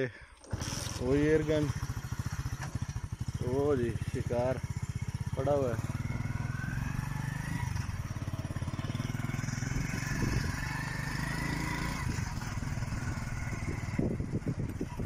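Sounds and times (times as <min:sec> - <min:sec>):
small engine running: 0:00.4 - 0:15.0.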